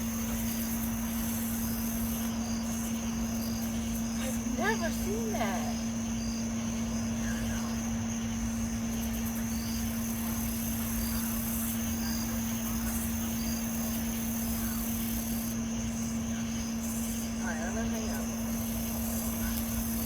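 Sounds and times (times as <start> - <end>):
faint insect chirps: 0.0 - 20.0.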